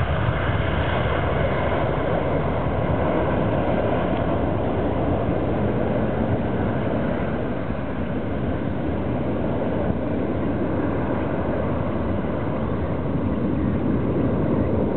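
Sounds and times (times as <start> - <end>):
jet engines roaring: 0.0 - 14.9.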